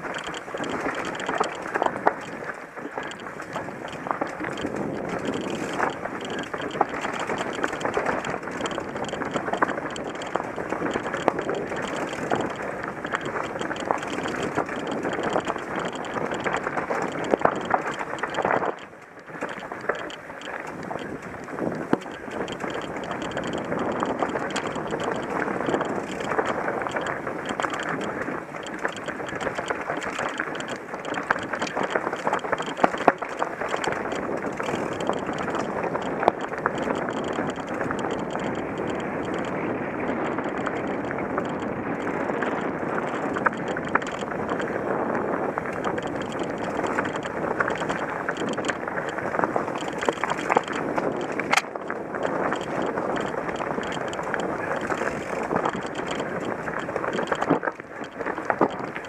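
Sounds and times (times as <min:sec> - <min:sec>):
bike rattling and knocking: 0:00.0 - 0:59.0
bike tyres rushing over loose stones: 0:00.0 - 0:59.0.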